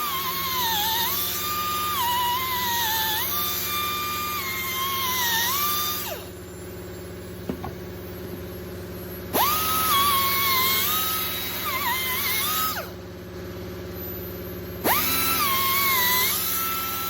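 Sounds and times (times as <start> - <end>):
grinder whining on metal: 0.0 - 13.0, 13.9 - 17.0.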